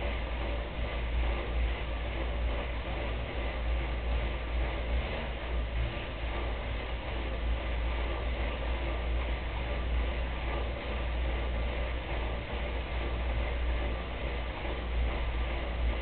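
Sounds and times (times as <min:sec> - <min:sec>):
bike trainer roller whirring: 0:00.0 - 0:16.0.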